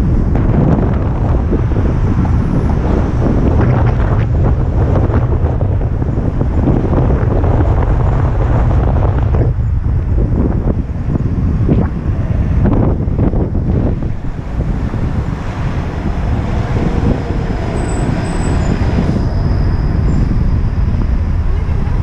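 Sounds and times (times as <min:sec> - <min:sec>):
city street traffic: 0:00.0 - 0:22.0
wind rumble on microphone: 0:00.0 - 0:22.0.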